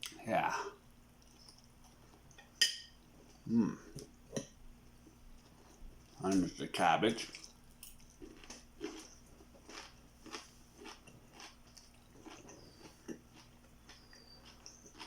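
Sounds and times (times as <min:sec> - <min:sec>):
chewing food: 0:01.1 - 0:15.0.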